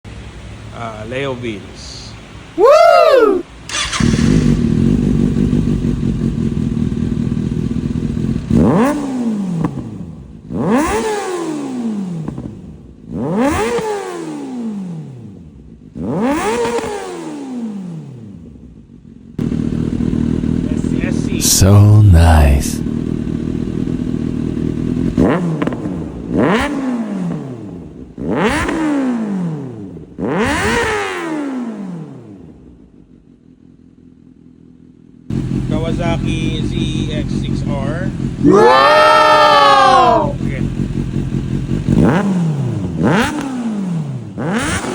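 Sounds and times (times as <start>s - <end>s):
motorcycle engine revving: 3.7s - 22.1s, 22.8s - 44.9s.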